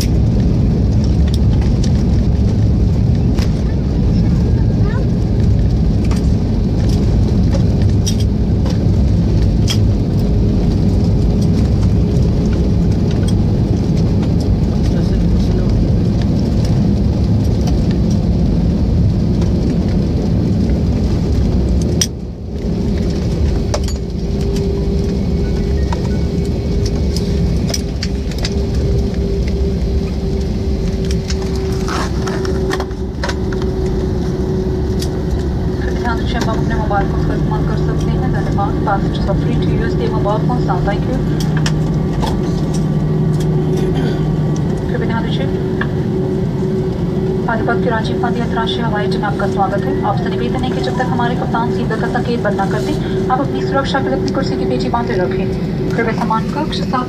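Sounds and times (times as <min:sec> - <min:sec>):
constant hum: 0:00.0 - 0:57.0
engines and wheels rumbling: 0:00.0 - 0:57.0.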